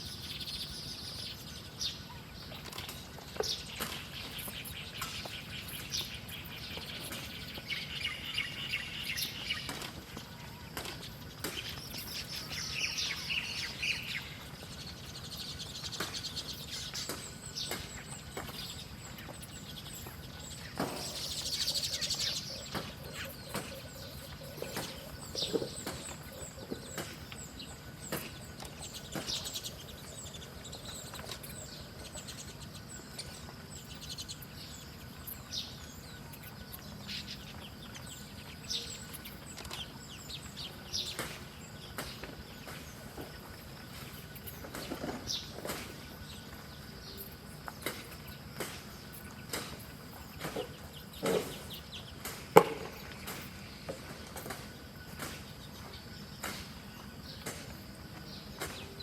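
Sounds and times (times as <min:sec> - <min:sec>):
faint outdoor background: 0:00.0 - 0:59.0
small birds chirping: 0:00.0 - 0:59.0.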